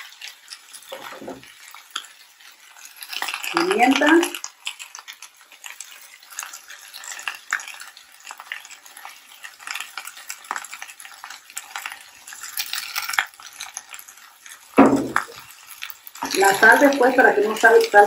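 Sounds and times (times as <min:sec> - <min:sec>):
shrimp sizzling in hot oil: 0:00.0 - 0:18.0.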